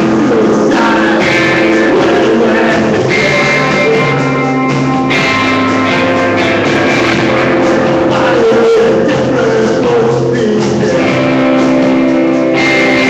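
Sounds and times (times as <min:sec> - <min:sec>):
drum kit: 0:00.0 - 0:13.0
electric guitars holding chords: 0:00.0 - 0:13.0.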